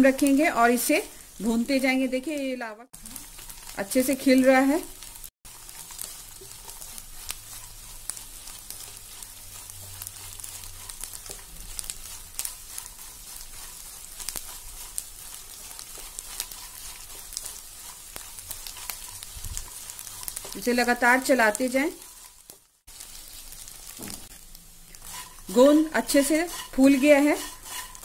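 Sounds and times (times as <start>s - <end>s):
frying sizzle: 0.0s - 28.0s.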